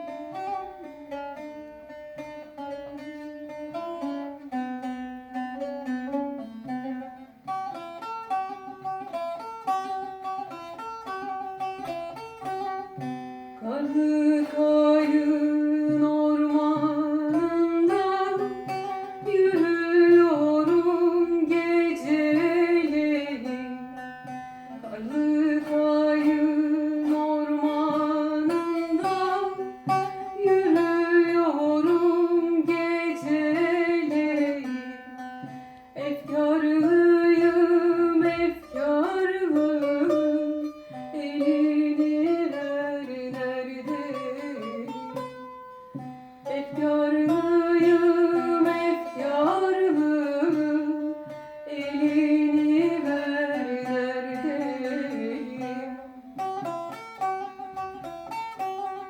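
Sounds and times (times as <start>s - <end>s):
plucked lute melody: 0.0s - 59.0s.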